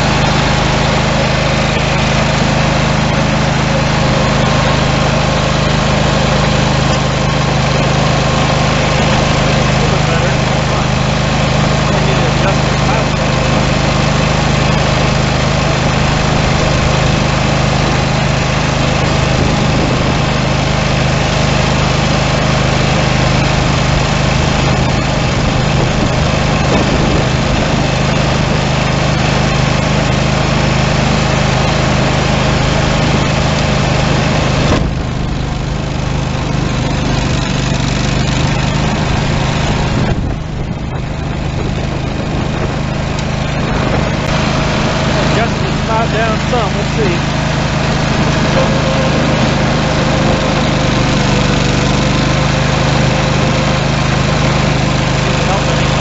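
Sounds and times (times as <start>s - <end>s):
garden tractor engine running: 0.0s - 56.0s
snowblower clearing snow: 0.0s - 56.0s.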